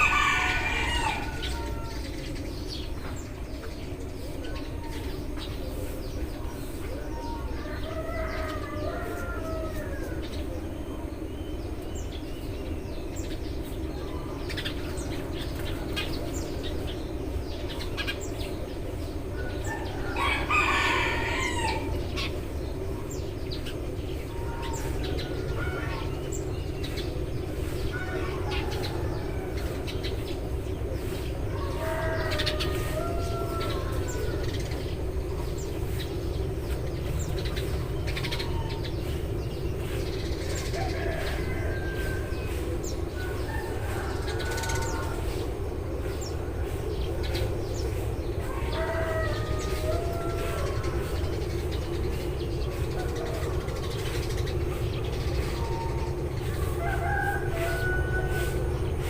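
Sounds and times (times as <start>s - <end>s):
low background hum: 0.0s - 59.0s
sparrows chirping: 0.0s - 59.0s.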